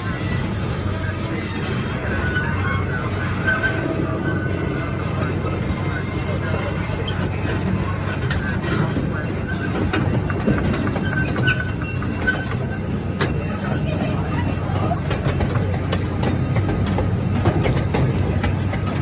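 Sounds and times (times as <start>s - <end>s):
train rumbling along track: 0.0s - 19.0s
sharp clicks of train: 3.4s - 19.0s.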